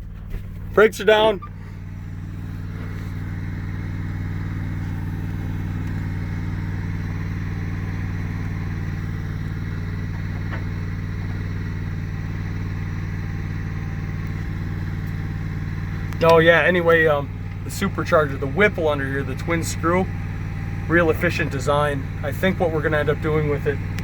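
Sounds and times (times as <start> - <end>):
lawnmower engine humming: 0.0 - 24.0.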